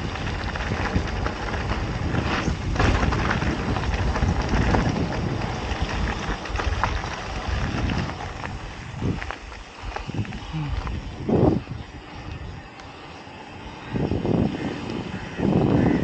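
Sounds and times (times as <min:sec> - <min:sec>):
bike clicks and rattles: 0:00.0 - 0:16.0
bike tyre noise on dirt: 0:00.0 - 0:16.0
wind rushing over microphone: 0:00.0 - 0:16.0.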